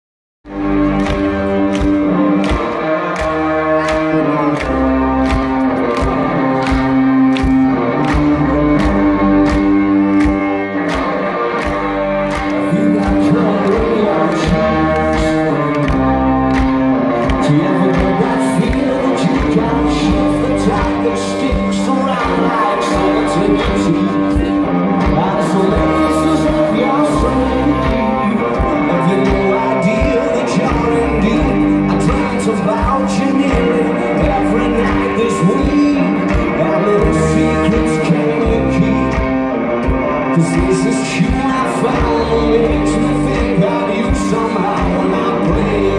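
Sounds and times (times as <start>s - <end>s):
drums: 0.4s - 45.9s
electric guitar: 0.4s - 45.9s
live rock band playing: 0.4s - 45.9s
person singing: 1.3s - 45.9s.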